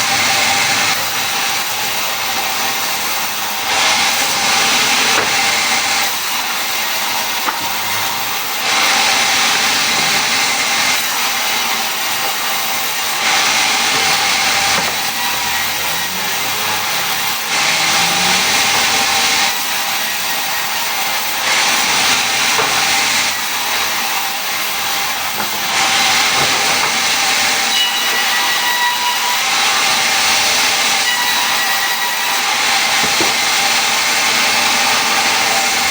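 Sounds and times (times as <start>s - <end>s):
power tool whining through wood: 0.0s - 35.9s.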